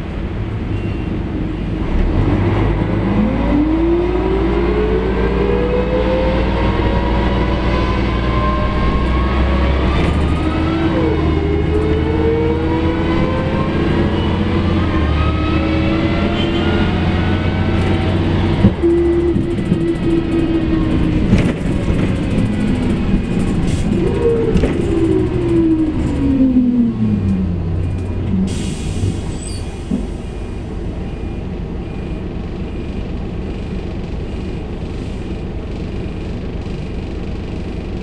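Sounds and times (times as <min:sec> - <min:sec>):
bus drivetrain whine: 0:00.0 - 0:38.0.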